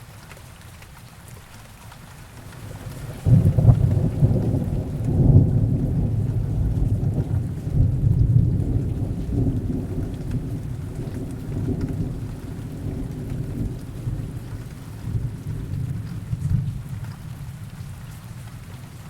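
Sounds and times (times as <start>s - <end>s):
steady rain: 0.0s - 19.0s
thunder rumbling: 2.4s - 18.8s.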